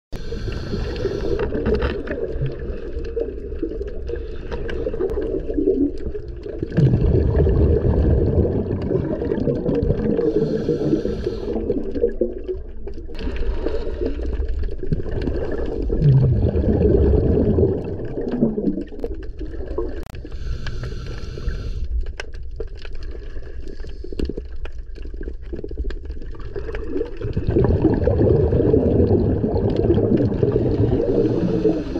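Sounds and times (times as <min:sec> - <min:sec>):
bubbling exhaled air underwater: 0:00.2 - 0:21.8, 0:22.6 - 0:31.9.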